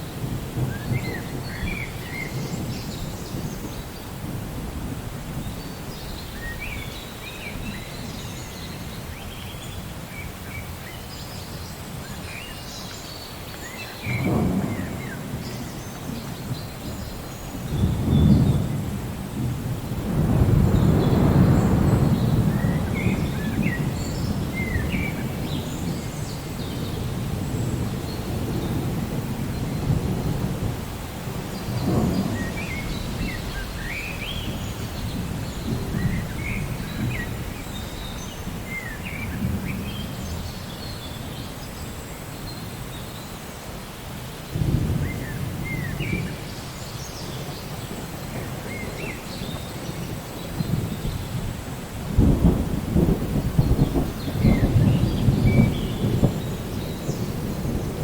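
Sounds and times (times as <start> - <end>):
thunder rumbling: 0.0 - 6.8, 14.0 - 41.3, 44.5 - 46.6, 47.2 - 58.0
steady rain: 0.0 - 58.0.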